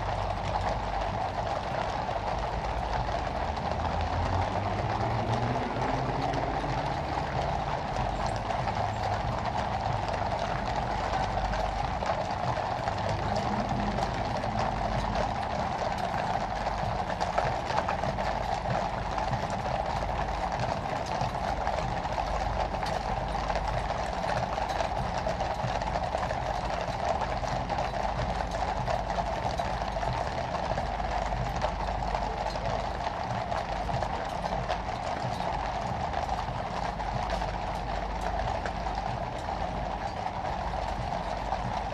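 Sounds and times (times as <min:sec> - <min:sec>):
coach low rumble: 0:00.0 - 0:41.9
horse hooves clip-clopping on road: 0:00.0 - 0:41.9.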